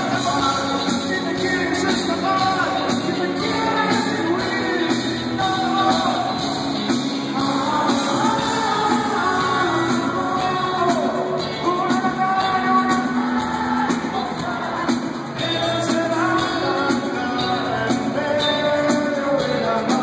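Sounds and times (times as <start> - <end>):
live rock band playing: 0.0 - 20.0
person singing lead vocals: 0.0 - 20.0.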